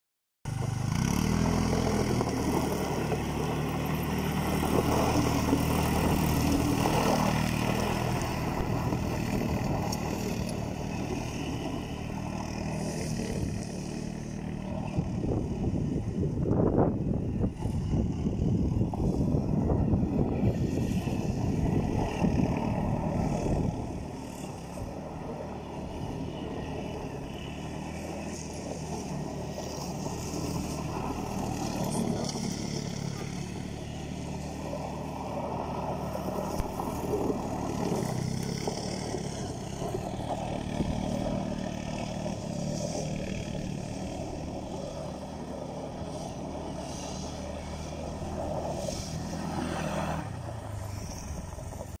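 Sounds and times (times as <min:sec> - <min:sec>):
quad engine revving: 0:00.5 - 0:52.0.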